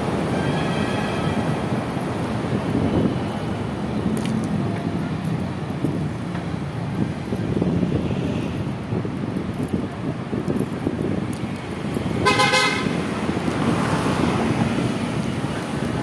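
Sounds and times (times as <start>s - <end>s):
road and traffic noise: 0.0s - 16.0s
wind rushing on microphone: 0.0s - 16.0s.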